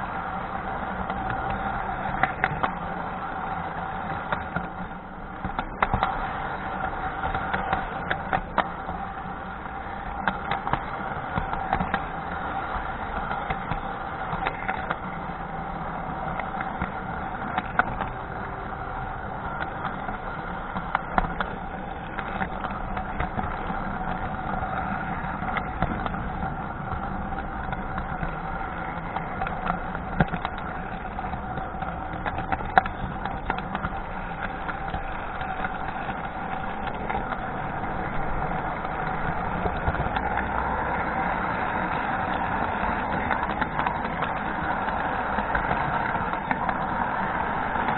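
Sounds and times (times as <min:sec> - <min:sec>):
model train motor whirring: 0:00.0 - 0:47.9
wheels clicking over rail joints: 0:00.0 - 0:47.9.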